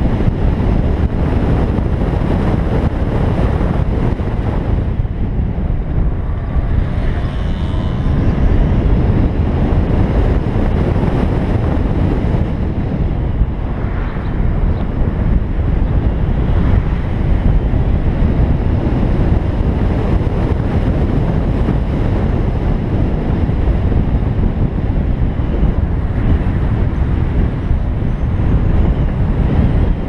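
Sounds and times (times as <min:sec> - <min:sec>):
road and tyre rumble: 0:00.0 - 0:30.0
wind buffeting microphone: 0:00.0 - 0:30.0.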